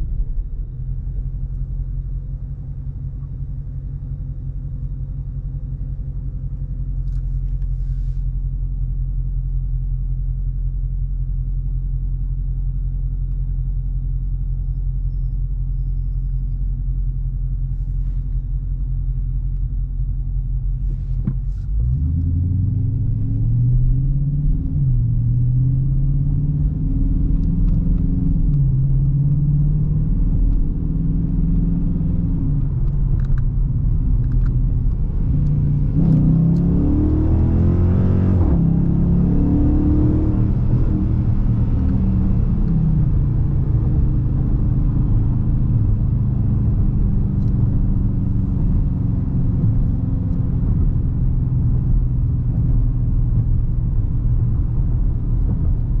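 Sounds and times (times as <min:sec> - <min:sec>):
car engine accelerating and cruising: 0:00.0 - 0:56.0.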